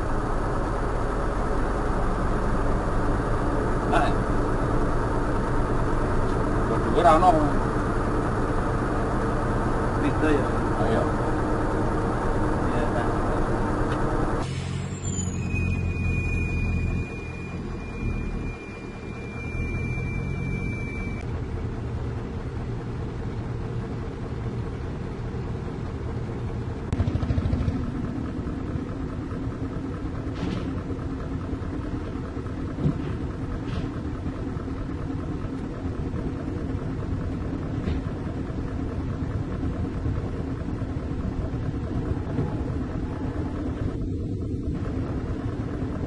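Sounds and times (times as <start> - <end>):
dump truck engine rumbling: 0.0 - 46.0.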